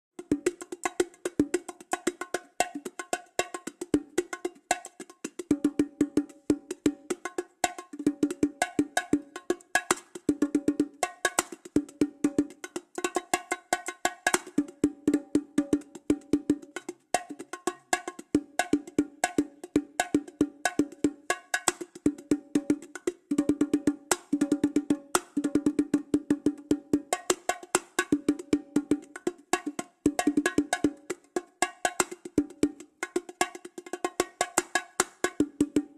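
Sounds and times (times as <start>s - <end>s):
rapid toy bongo drum hits: 0.2s - 35.9s.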